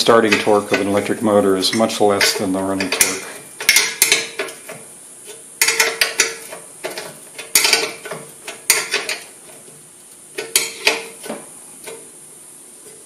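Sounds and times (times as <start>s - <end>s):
metal clinks and scrapes: 0.0s - 12.0s.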